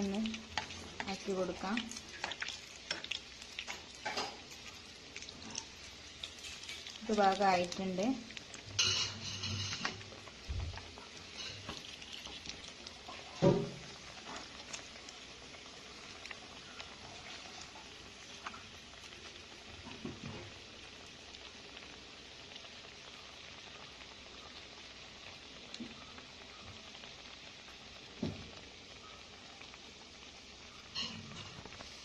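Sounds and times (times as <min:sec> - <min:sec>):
cutlets sizzling in hot oil: 0:00.0 - 0:32.0.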